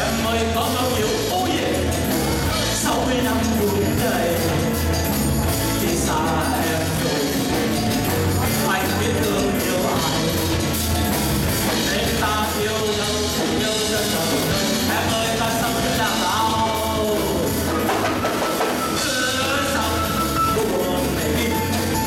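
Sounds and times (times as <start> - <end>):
person singing into a microphone: 0.0 - 10.8, 11.6 - 22.0
drum kit: 0.0 - 22.0
electric guitar: 0.0 - 22.0
keyboard: 0.0 - 22.0.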